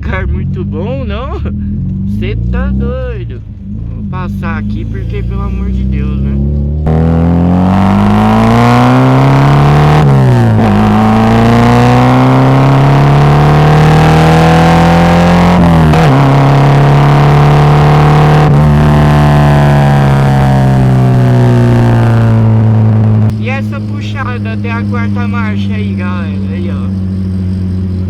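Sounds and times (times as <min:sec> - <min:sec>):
car engine accelerating through gears: 0:00.0 - 0:28.0.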